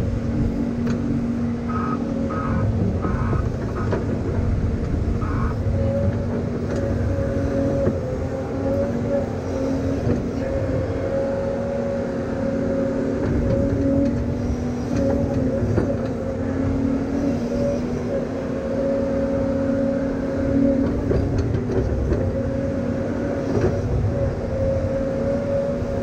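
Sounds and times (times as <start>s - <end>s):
engine whine: 0.0s - 26.0s
heavy engine rumbling: 0.0s - 26.0s.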